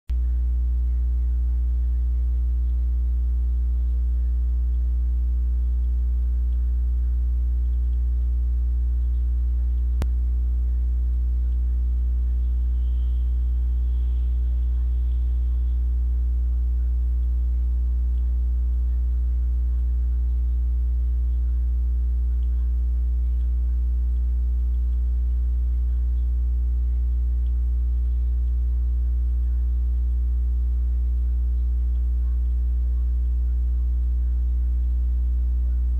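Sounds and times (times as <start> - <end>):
electrical mains hum: 0.1 - 35.9.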